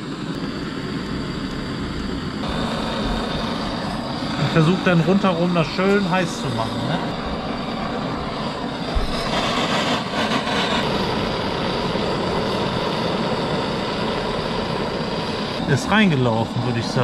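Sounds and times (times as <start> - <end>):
soldering torch hissing: 0.0 - 17.0.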